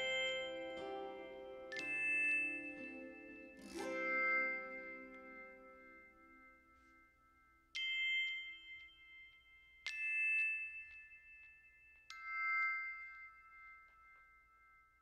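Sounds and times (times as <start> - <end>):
ringing bell-like mallet notes: 0.0 - 15.0.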